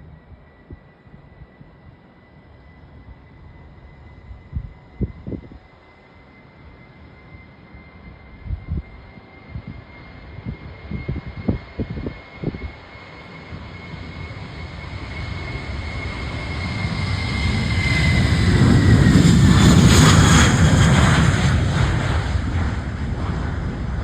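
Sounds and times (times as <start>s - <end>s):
high engine whine: 0.0s - 24.0s
jet airliner passing by: 0.0s - 24.0s.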